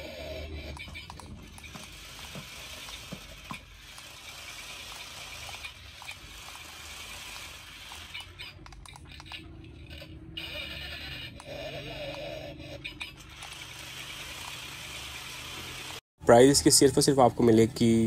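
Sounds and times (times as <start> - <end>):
electric motors whirring: 0.0 - 16.0.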